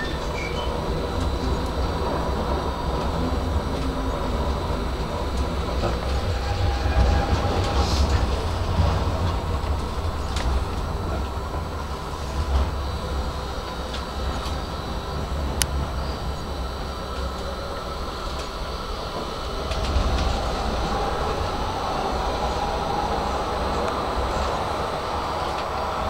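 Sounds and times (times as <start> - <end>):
tram running gear rumble: 0.0 - 26.0.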